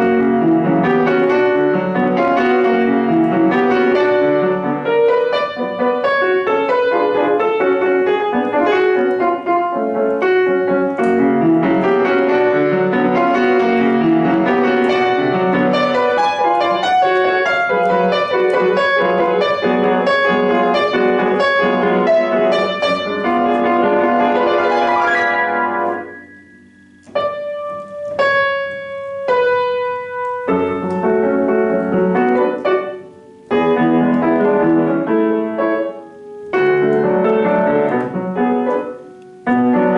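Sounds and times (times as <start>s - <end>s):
solo classical piano: 0.0s - 39.9s.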